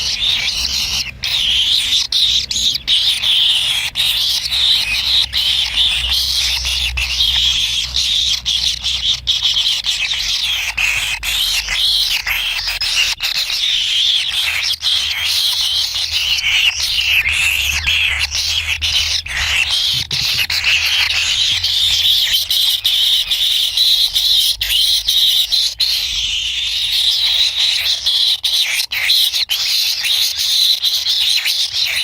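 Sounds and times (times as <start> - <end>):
chicks raspy begging chorus: 0.0 - 32.0.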